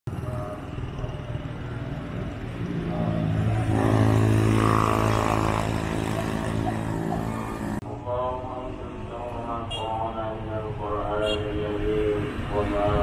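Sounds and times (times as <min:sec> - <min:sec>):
vehicle engine humming: 0:00.1 - 0:13.0.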